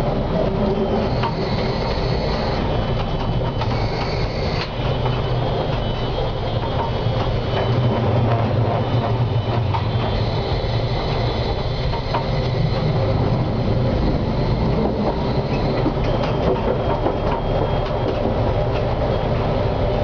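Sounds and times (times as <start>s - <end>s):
high whine: 0.0s - 20.0s
tram rumbling on rails: 0.0s - 20.0s.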